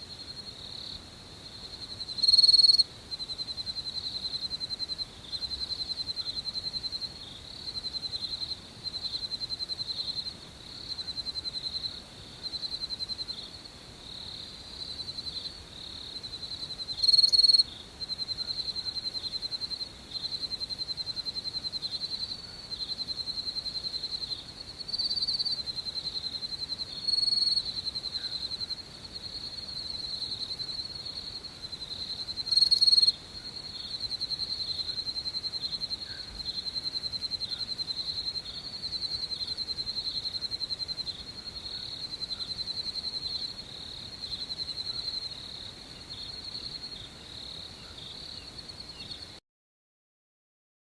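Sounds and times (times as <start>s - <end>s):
crickets trilling: 0.0s - 49.4s
loud cricket chirps: 0.0s - 49.4s.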